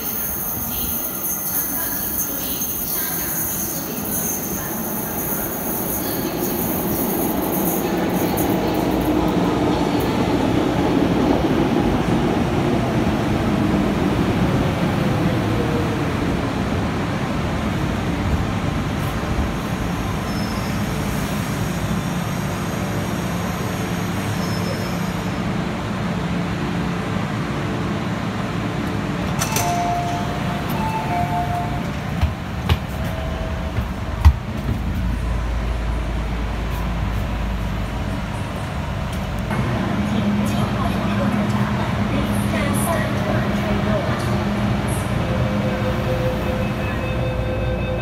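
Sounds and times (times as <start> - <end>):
train rumble: 0.0 - 48.0.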